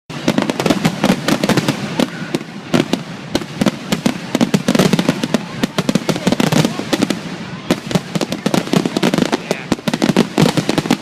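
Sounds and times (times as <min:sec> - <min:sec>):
fireworks bangs and crackles: 0:00.1 - 0:11.0.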